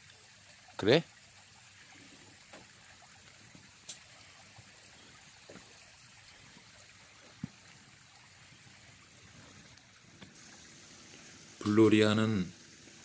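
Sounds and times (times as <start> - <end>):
campfire crackling: 1.4 - 13.0.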